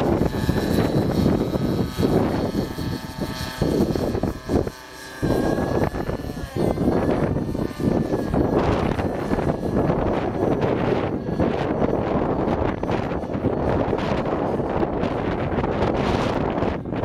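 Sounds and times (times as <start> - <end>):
rc helicopter engine and rotor whining: 0.0 - 17.0
wind buffeting on microphone: 0.0 - 17.0.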